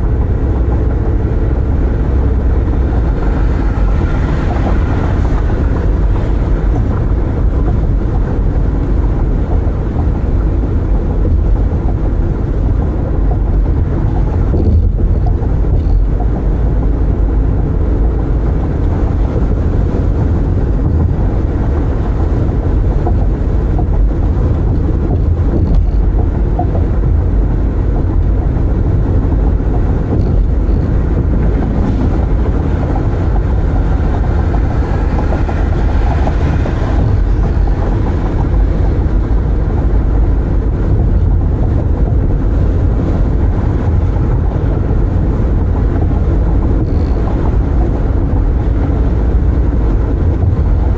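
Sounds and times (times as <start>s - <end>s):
tyres rumbling on road: 0.0s - 50.9s
wind through car cabin: 0.0s - 50.9s.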